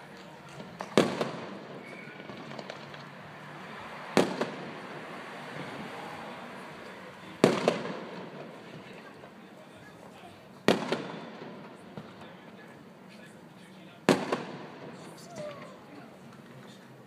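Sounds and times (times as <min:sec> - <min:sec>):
fireworks pops and crackles: 0:00.0 - 0:03.3, 0:04.2 - 0:04.9, 0:06.8 - 0:17.0
fireworks bangs: 0:00.0 - 0:12.9, 0:14.0 - 0:16.5.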